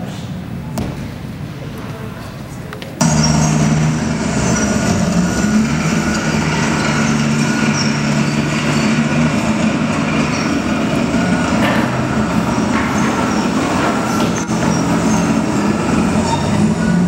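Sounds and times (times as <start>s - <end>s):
mechanical rumble over loudspeakers: 3.0s - 17.0s.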